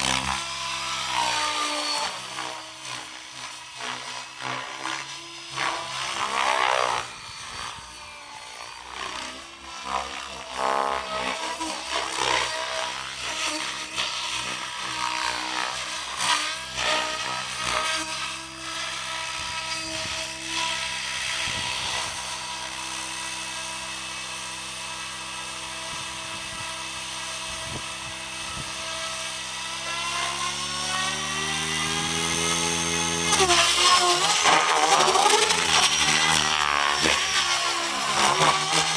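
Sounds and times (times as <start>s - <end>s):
rc helicopter motor and rotor whining: 0.0s - 38.9s.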